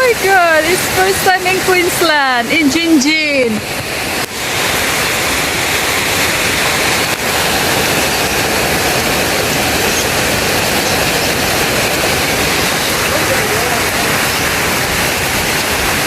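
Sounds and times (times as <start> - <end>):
heavy rain and hail: 0.0 - 16.0.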